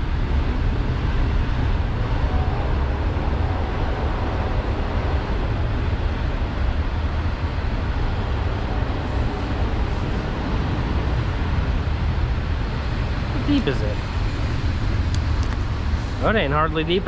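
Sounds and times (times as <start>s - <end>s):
low rumble of passing train: 0.0s - 17.0s.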